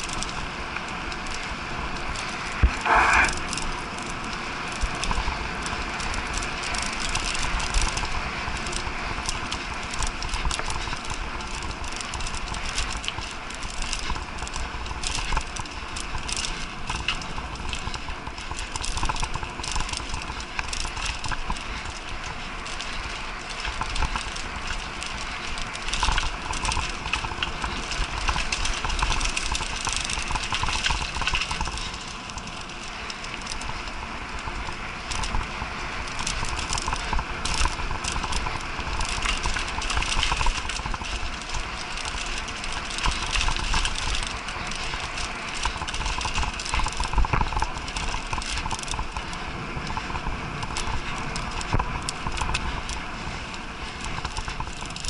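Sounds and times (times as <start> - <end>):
bike tyres rattling on dirt trail: 0.0 - 55.0
wind rumbling on microphone: 0.0 - 55.0.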